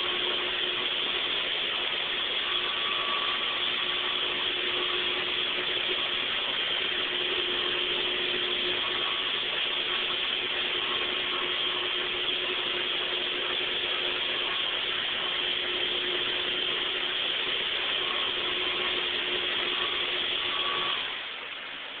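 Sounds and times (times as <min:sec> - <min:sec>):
floor buffing machine whirring: 0:00.0 - 0:22.0.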